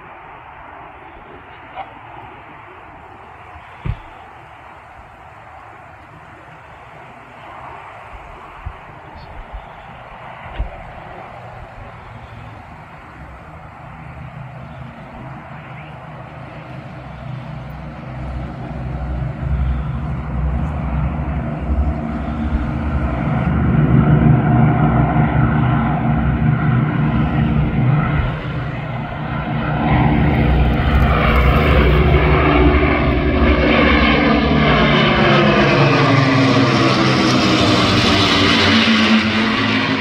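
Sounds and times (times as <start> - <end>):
propeller plane engines flying low: 0.0 - 40.0.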